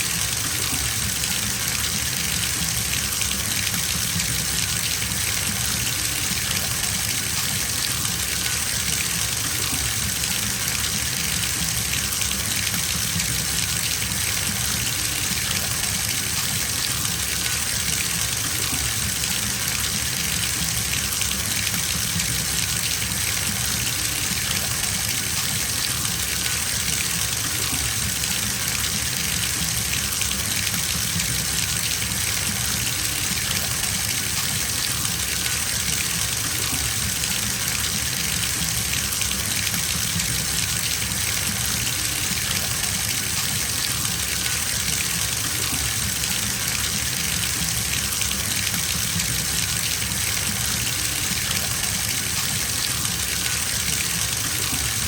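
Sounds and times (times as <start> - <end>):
water gushing into bathtub: 0.0 - 55.0.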